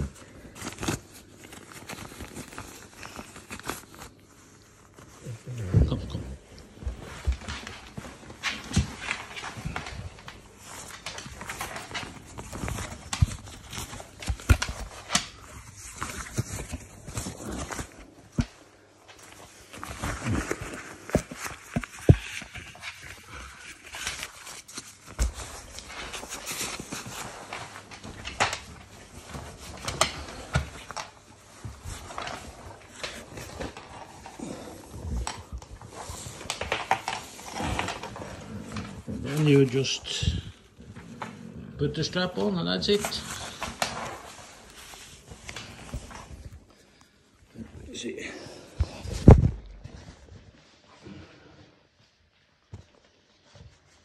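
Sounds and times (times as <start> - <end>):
fabric rustling and rubbing: 0.0 - 51.0, 51.6 - 54.0.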